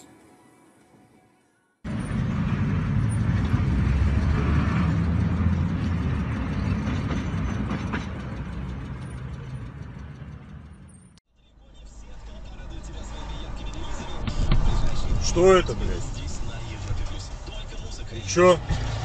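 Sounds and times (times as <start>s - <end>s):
vehicle engine and road noise: 1.8s - 19.0s.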